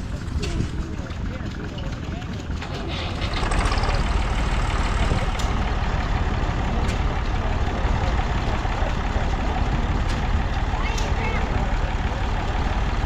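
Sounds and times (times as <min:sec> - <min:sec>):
engine running with deep rumble: 0:00.0 - 0:13.0.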